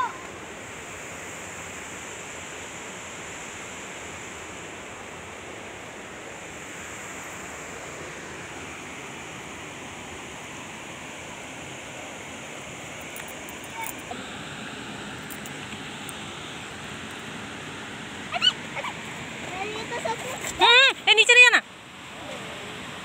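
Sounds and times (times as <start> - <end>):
stream flowing over rocks: 0.0 - 23.0.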